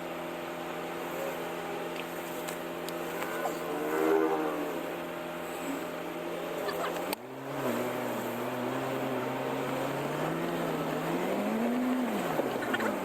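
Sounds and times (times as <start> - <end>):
car engine hum: 0.0 - 13.0
road and tyre noise: 0.0 - 13.0.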